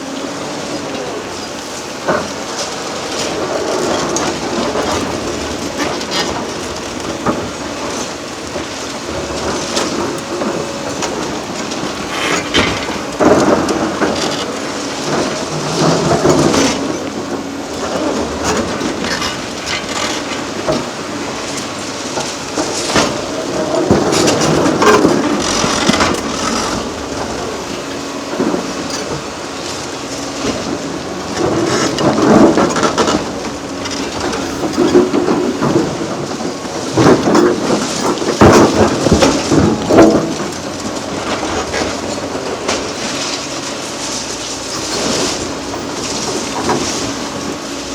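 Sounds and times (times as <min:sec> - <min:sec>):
diesel machine running: 0:00.0 - 0:47.9
concrete grinding and cracking: 0:01.4 - 0:47.9.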